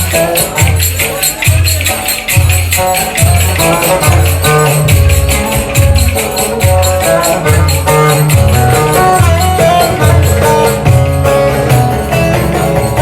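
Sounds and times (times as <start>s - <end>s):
finger cymbals jingling: 0.0s - 13.0s
repeating bass line: 0.0s - 13.0s.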